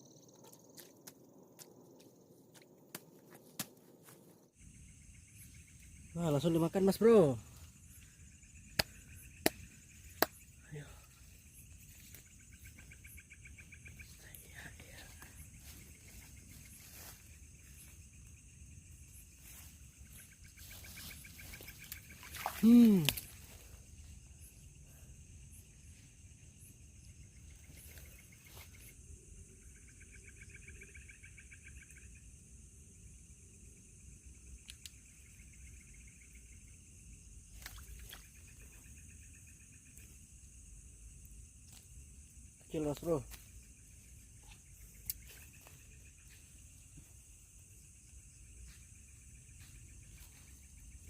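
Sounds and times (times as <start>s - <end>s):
insect chorus drone: 0.0s - 51.0s.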